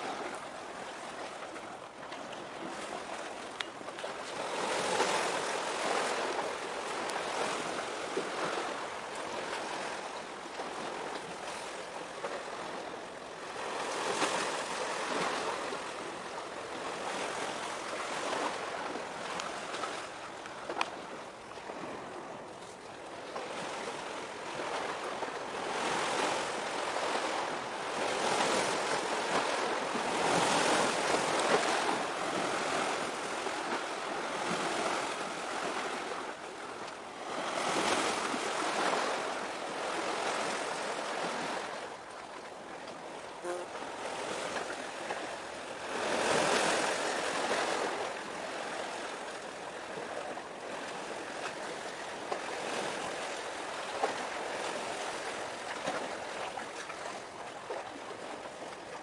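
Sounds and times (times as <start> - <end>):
sea waves washing ashore: 0.0 - 59.0.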